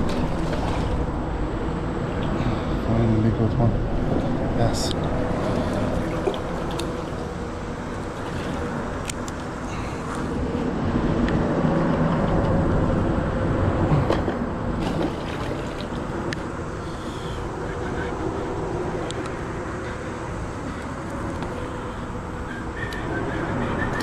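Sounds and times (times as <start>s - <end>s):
traffic rumble overhead: 0.0s - 24.0s.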